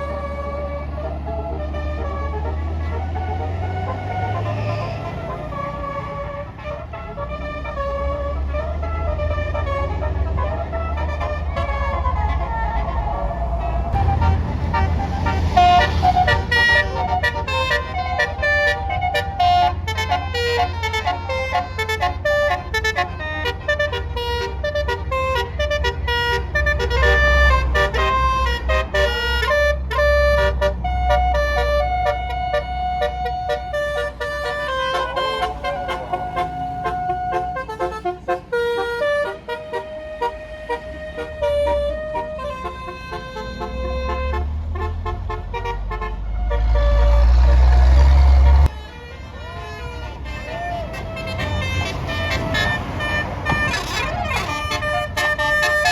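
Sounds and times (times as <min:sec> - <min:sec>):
musical air horn tune: 0:00.0 - 0:49.0, 0:49.6 - 0:55.9
bus engine rumble: 0:00.0 - 0:55.9.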